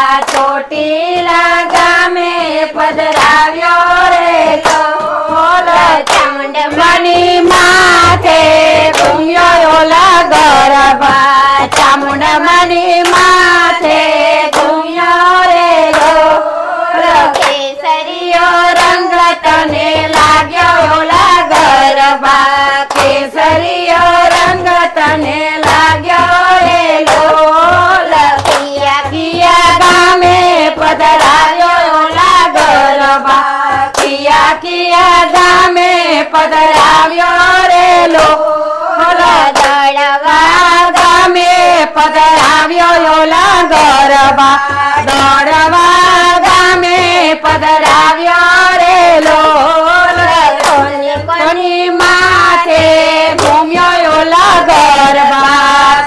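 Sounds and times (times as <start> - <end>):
hands clapping in rhythm: 0.0 - 56.0
women singing folk song: 0.0 - 56.0.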